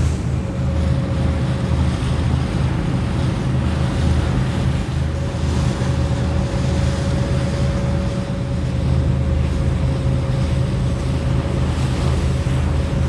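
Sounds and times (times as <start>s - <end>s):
ferry engine drone: 0.0s - 13.0s
rushing water: 0.0s - 13.0s.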